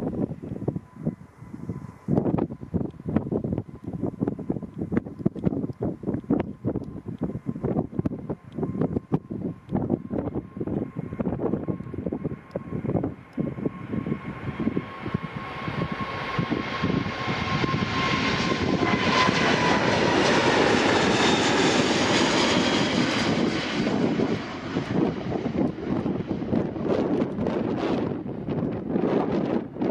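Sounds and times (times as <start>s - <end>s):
jet engines roaring at takeoff: 0.0s - 29.9s
wind buffeting microphone: 0.0s - 29.9s.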